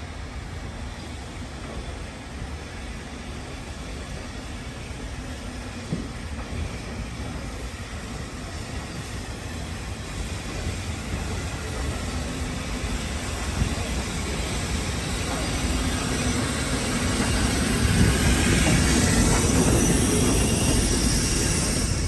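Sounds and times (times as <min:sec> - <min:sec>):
steam train rumble: 0:00.0 - 0:22.0.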